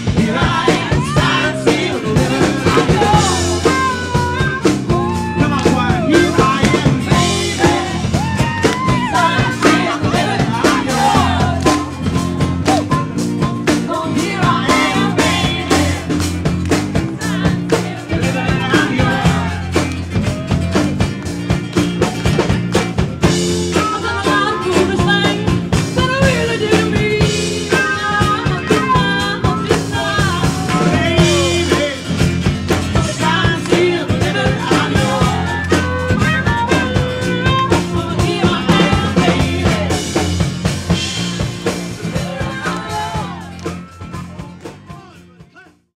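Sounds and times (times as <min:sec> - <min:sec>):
rock music with drums and guitar: 0:00.0 - 0:45.9.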